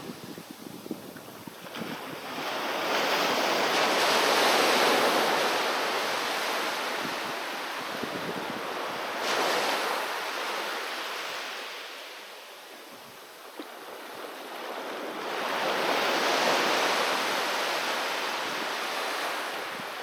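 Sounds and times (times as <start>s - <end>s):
sea waves breaking on beach: 0.0s - 20.0s.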